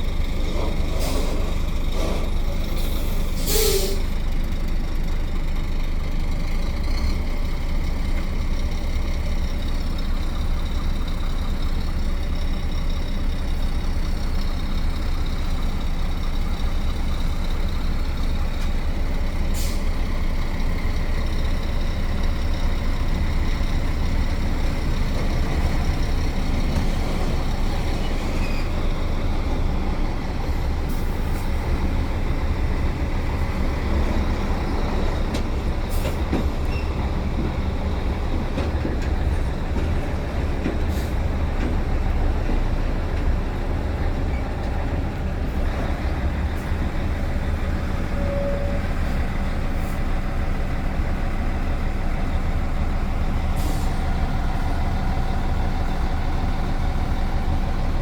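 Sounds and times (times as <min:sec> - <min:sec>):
heavy truck rumbling: 0:00.0 - 0:58.0
road noise: 0:00.0 - 0:58.0.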